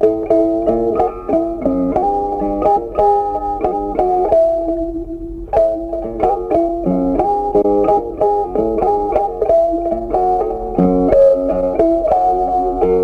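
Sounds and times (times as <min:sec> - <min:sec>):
plucked instrumental music: 0:00.0 - 0:13.0.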